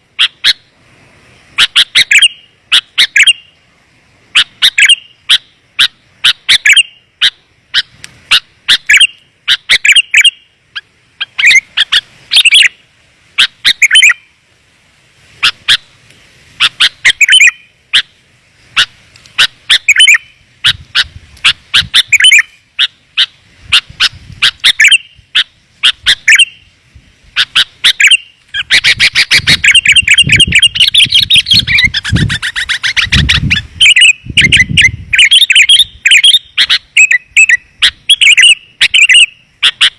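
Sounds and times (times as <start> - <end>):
bird chirps: 1.6 - 3.6, 4.3 - 14.4, 16.6 - 39.9.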